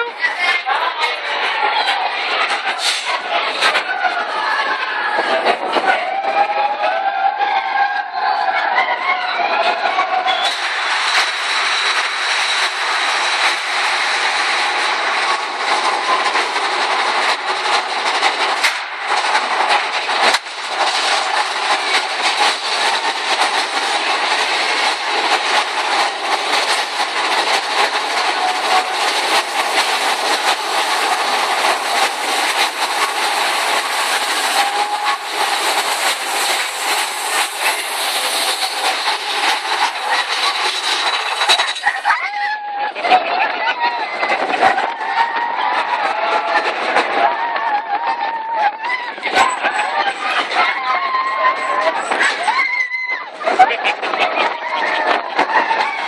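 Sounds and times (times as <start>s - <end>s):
roller coaster wheels rattling: 0.0s - 56.0s.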